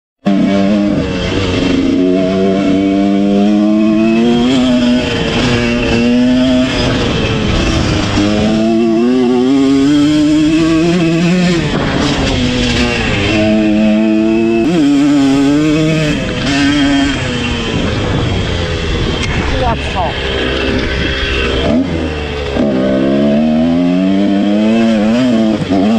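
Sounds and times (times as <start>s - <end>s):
dirt bike engine revving: 0.2s - 25.9s.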